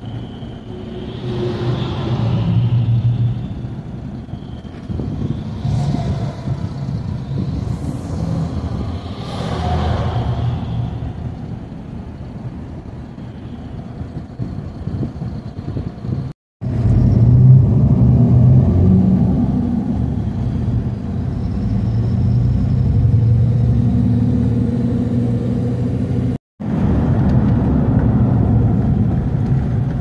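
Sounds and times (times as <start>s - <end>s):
trucks passing: 0.0s - 13.3s, 13.9s - 30.0s
bus engine and road rumble: 0.0s - 30.0s.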